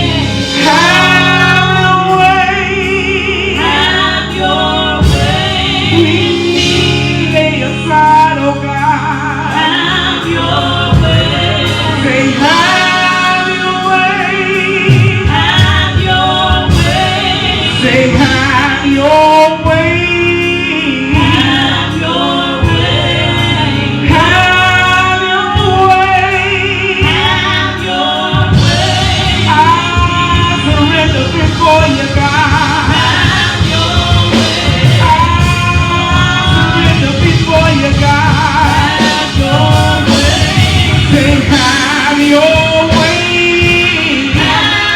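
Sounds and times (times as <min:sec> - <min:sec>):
gospel choir singing: 0:00.0 - 0:44.9
instrumental backing with bass: 0:00.0 - 0:44.9.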